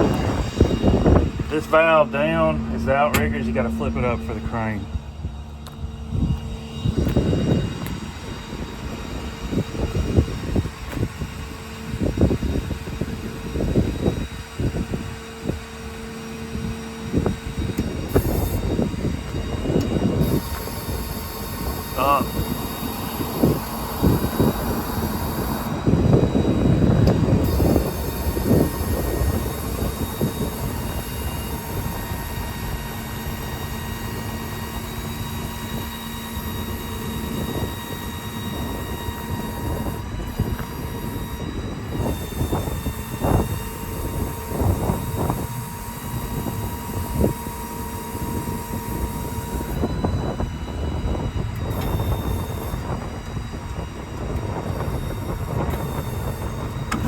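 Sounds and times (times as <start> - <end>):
hydraulic pump whine: 0.0 - 57.0.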